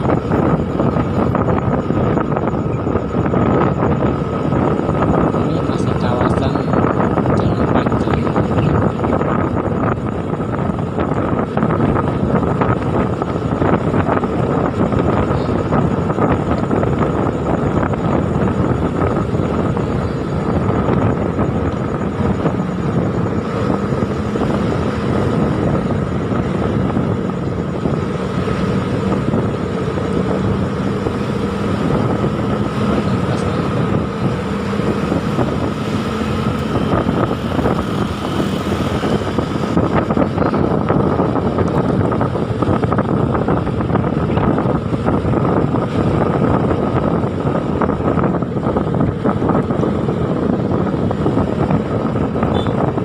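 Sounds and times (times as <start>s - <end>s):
motorcycle engine: 0.0s - 53.0s
wind on microphone: 0.0s - 53.0s.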